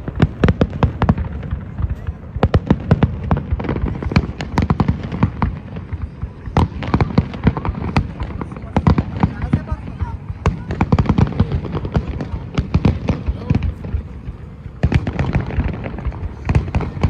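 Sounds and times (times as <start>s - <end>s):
crowd voices: 0.0s - 17.0s
fireworks bangs and pops: 0.0s - 17.0s.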